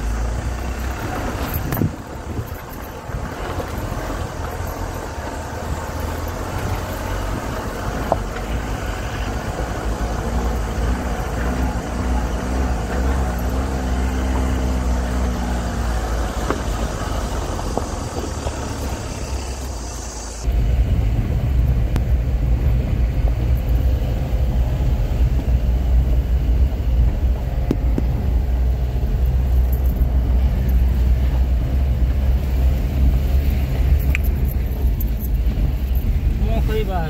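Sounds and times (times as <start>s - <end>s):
car engine rumbling: 0.0s - 37.0s.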